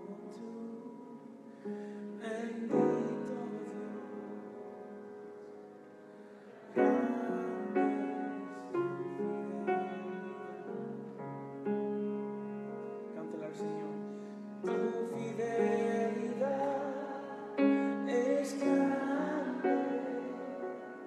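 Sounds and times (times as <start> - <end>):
slow keyboard chords: 0.0 - 21.0.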